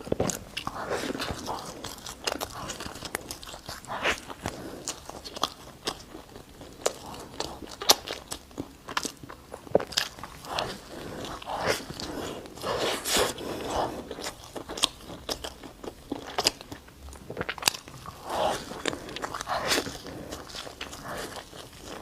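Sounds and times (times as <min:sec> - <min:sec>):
person biting and chewing food: 0:00.0 - 0:22.0
sharp crackles of chewing: 0:00.0 - 0:22.0.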